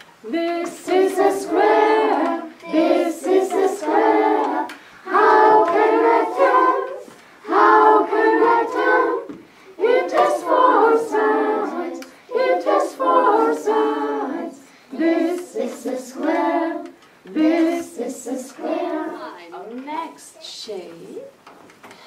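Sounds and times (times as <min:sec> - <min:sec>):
children and teacher singing: 0:00.0 - 0:19.8.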